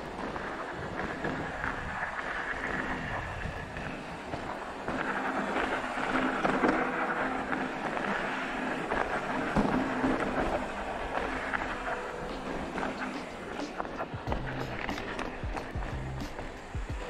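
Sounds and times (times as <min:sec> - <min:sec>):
bike tyres rushing on trail: 0:00.0 - 0:17.0.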